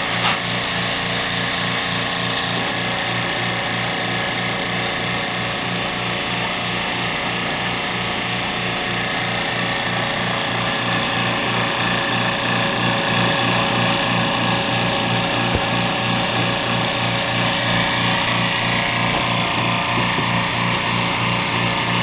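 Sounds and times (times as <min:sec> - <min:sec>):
small electric motor pulsing: 0:00.0 - 0:22.0.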